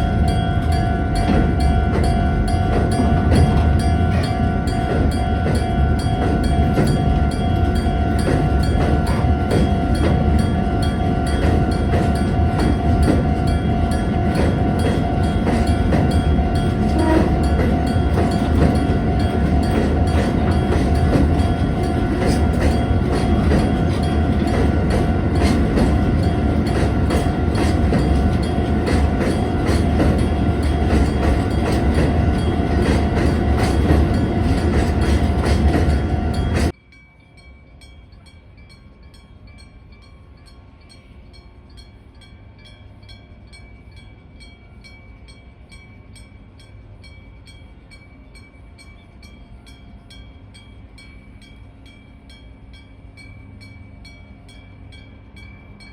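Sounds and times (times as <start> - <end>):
freight train rolling past: 0.0 - 55.9.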